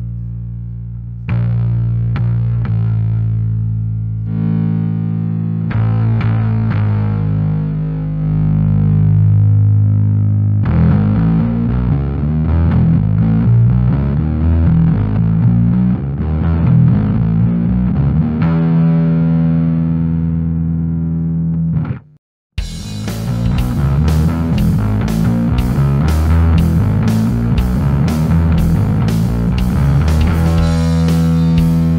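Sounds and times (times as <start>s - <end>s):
distorted fuzz bass guitar: 0.0s - 31.9s.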